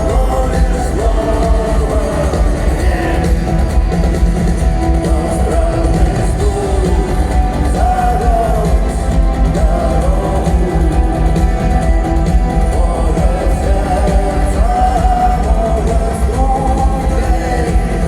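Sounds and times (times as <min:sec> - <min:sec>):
person singing: 0:00.0 - 0:03.9, 0:04.8 - 0:18.0
live rock band: 0:00.0 - 0:18.0.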